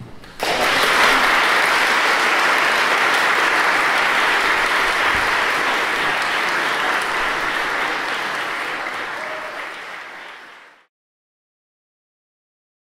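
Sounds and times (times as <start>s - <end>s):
crowd applauding: 0.2s - 10.9s.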